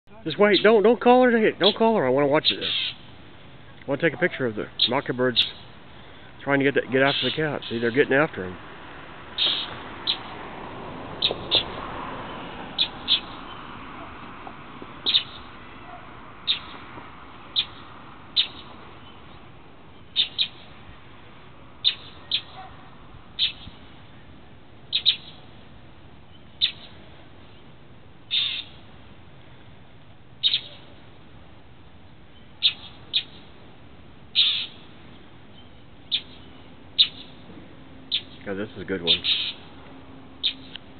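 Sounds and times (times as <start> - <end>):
birds giving sharp scolding calls: 0.2 - 29.0, 30.3 - 31.2, 32.0 - 40.9.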